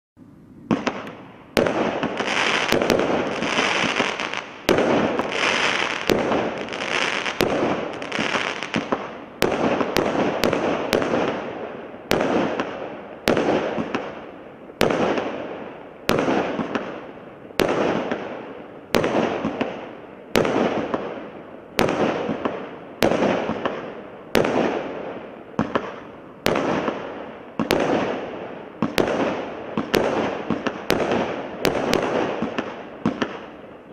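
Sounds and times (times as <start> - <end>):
firework shots banging: 0.7 - 14.2, 17.6 - 33.6.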